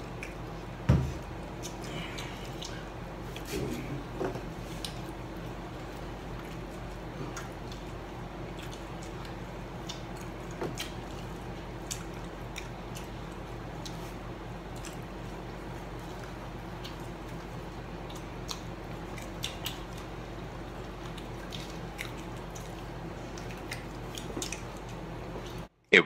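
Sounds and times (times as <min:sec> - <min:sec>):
food being chewed: 0:00.0 - 0:25.7
steady low hum: 0:00.0 - 0:26.0.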